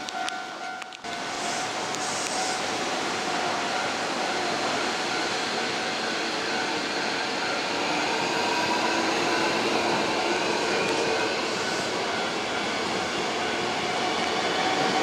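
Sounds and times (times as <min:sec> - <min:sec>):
faint train running tones: 0:00.0 - 0:15.0
train wheels rumbling on rail: 0:00.0 - 0:15.0.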